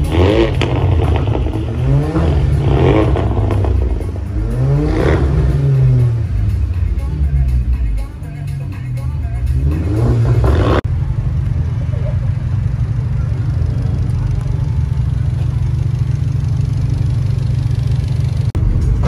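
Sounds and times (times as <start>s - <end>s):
car engine revving: 0.0s - 7.8s, 8.5s - 19.0s
car engine idling: 0.0s - 19.0s.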